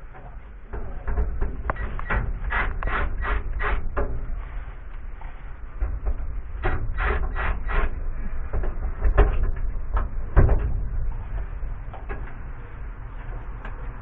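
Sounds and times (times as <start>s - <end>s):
low rumble: 0.0s - 14.0s
wire scraping: 0.9s - 13.8s.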